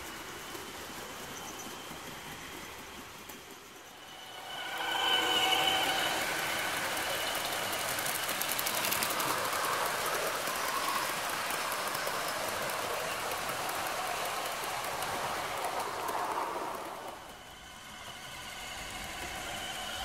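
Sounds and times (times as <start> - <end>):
wheels clicking on metal track: 0.0 - 18.2
model train rolling past: 0.0 - 20.0.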